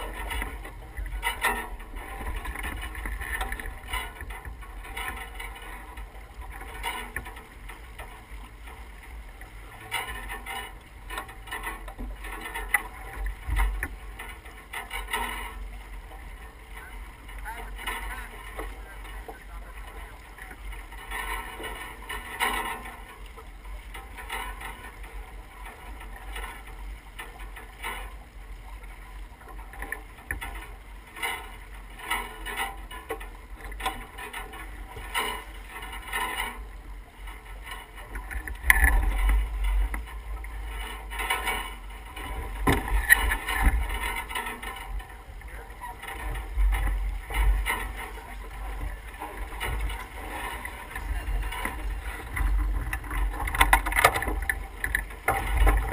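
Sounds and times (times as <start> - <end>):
water rushing along a hull: 0.0 - 55.9.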